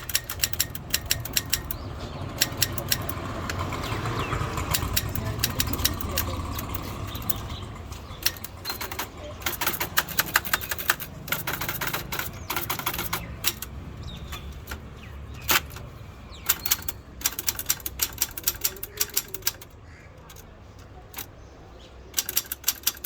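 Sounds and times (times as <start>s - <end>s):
typewriter key strikes: 0.0s - 4.0s, 4.6s - 21.4s, 22.1s - 23.0s.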